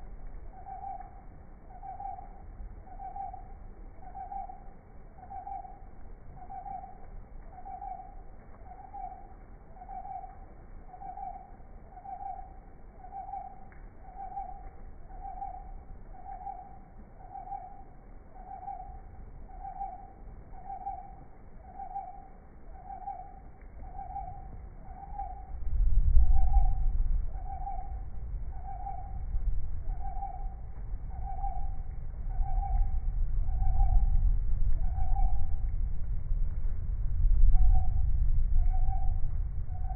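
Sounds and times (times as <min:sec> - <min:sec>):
low rumble: 0:00.0 - 0:39.9.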